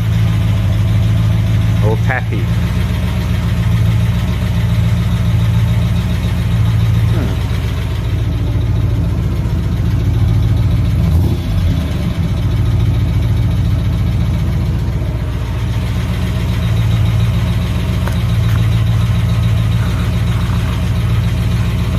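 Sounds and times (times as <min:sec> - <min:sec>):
tappy engine idling: 0:00.0 - 0:21.9.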